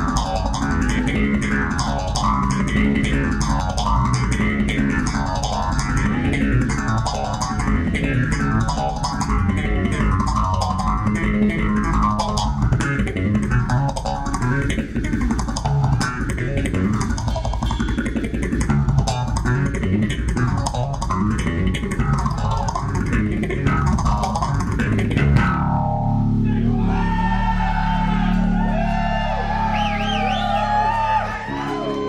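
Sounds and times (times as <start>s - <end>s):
electric bass with effects: 0.0s - 32.0s.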